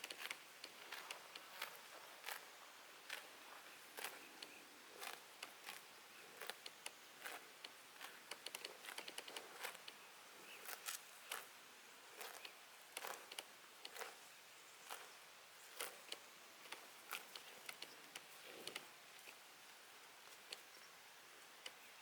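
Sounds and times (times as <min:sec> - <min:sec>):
livestock chewing grass: 0:00.0 - 0:20.8.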